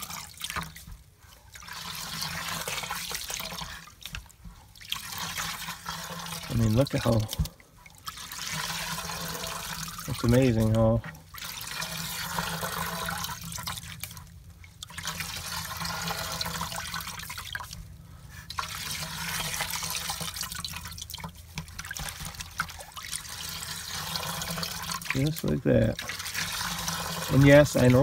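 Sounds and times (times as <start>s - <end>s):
liquid sloshing and splashing: 0.0s - 28.0s.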